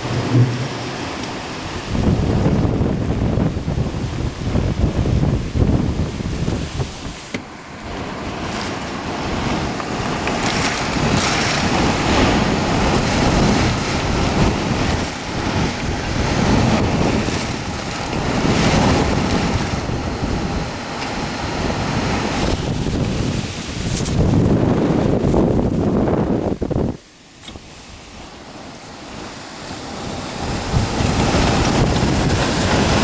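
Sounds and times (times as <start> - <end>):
heavy rain: 0.0 - 33.0
strong gusting wind: 0.0 - 33.0
wind buffeting microphone: 0.0 - 33.0.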